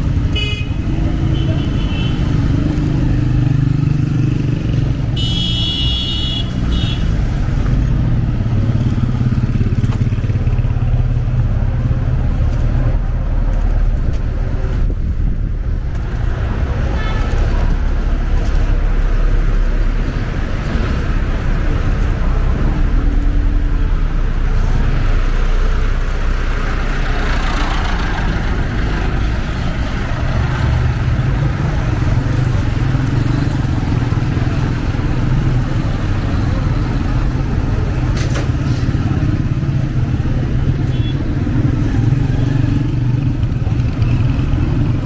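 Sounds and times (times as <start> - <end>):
vehicle engines running: 0.0 - 45.0.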